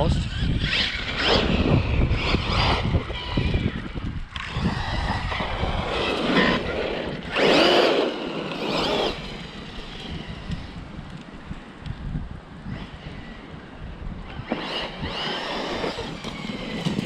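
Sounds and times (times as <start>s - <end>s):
electric motor whining: 0.0s - 11.4s, 14.2s - 17.0s
tire and dirt noise: 0.0s - 17.0s.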